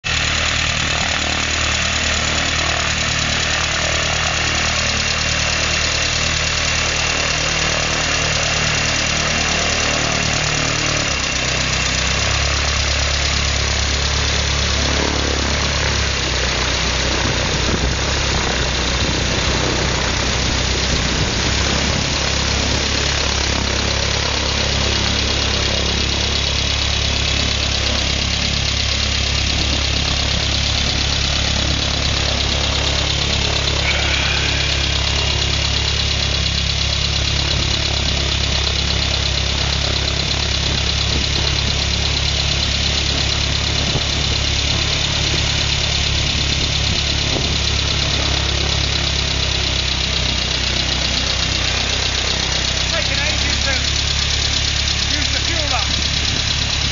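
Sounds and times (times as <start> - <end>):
aircraft engine running steadily: 0.0 - 56.9.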